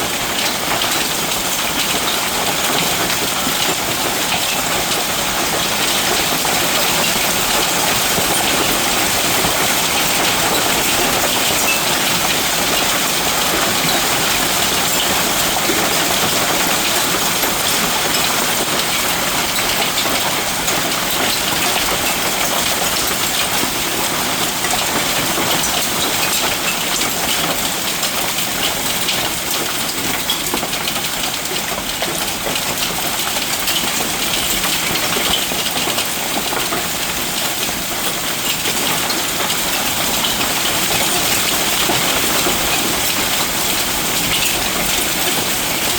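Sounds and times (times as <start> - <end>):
heavy rain downpour: 0.0 - 45.9.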